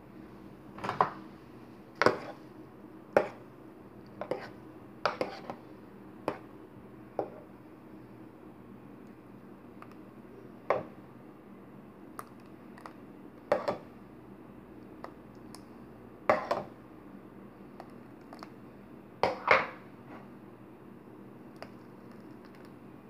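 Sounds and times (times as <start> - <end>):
low background hum: 0.0 - 23.0.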